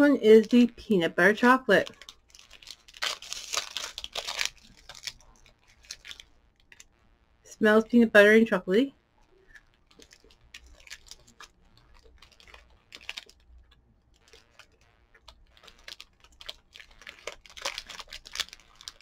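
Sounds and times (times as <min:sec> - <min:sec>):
plastic wrapper crinkling: 0:00.4 - 0:07.0, 0:09.1 - 0:19.0.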